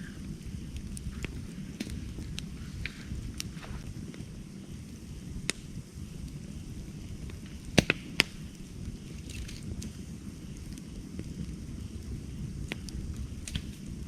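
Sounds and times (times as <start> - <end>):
campfire flames rumbling: 0.0 - 14.0
fire crackles: 0.0 - 14.0
loud fire pops: 0.0 - 14.0.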